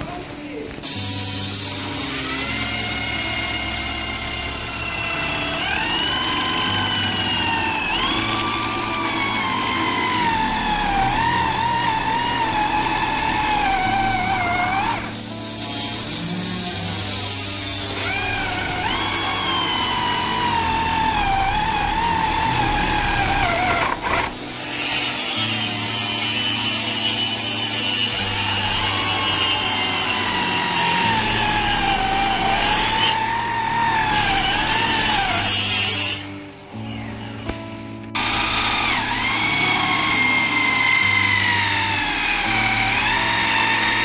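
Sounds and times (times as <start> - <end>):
electric drill boring into wood: 0.8 - 44.0.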